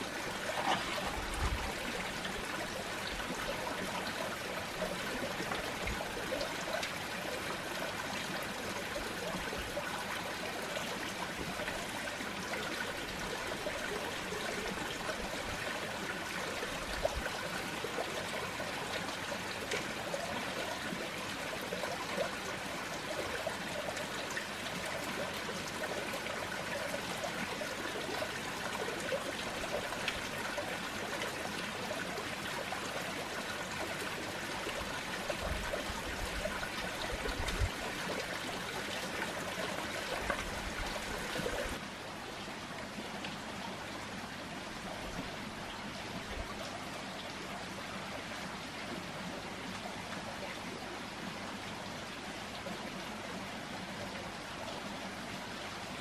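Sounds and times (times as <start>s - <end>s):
water trickling into pond: 0.0s - 56.0s.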